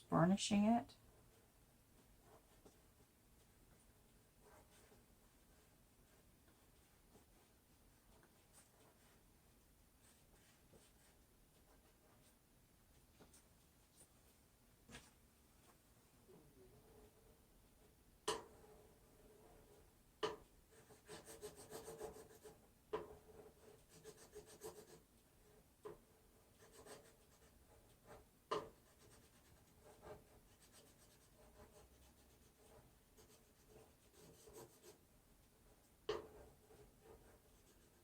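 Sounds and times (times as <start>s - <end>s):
faint rubbing and scratching: 1.0s - 38.0s.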